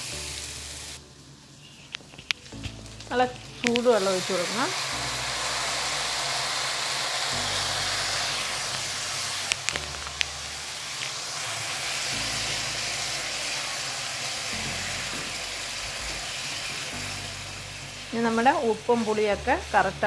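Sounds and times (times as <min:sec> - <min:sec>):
masala sizzling in a hot pan: 0:00.0 - 0:20.0.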